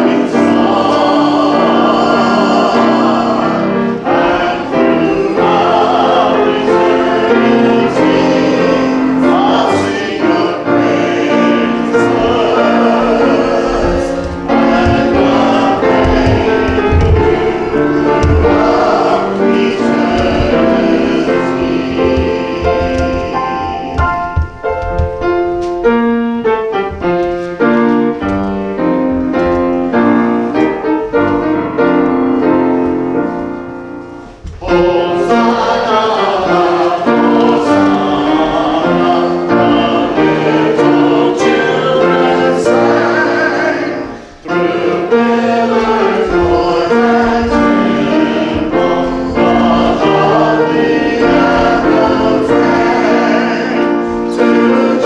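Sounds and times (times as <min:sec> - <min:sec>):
congregation singing: 0:00.0 - 0:55.0
piano playing hymn tune: 0:00.0 - 0:55.0.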